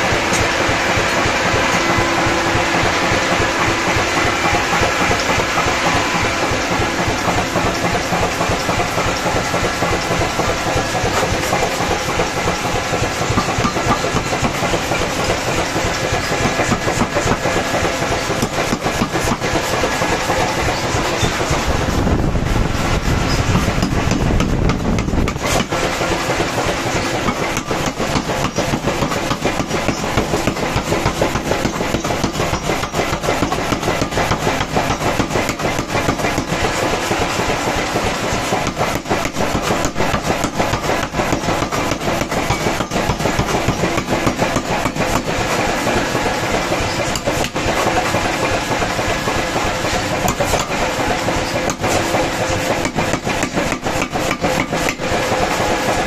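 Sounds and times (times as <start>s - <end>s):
power hammer striking metal: 0.0s - 22.0s, 22.8s - 56.0s.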